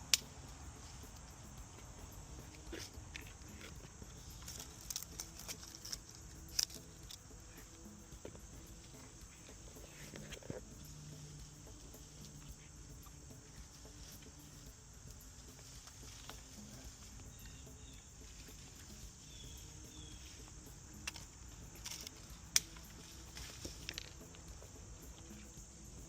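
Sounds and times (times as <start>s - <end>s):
faint chirps: 0.0s - 26.0s
insects chirring: 0.0s - 26.0s.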